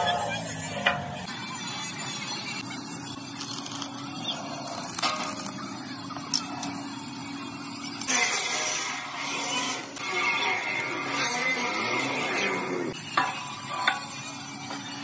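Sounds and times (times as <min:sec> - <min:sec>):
welding arc crackling and hissing: 0:01.3 - 0:15.0.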